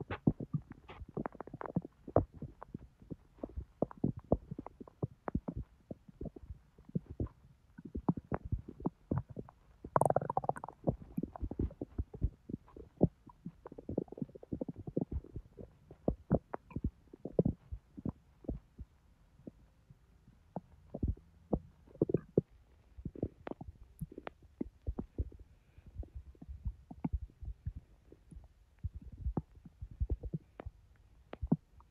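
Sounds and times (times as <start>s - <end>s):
stomach gurgle: 0.0s - 31.9s.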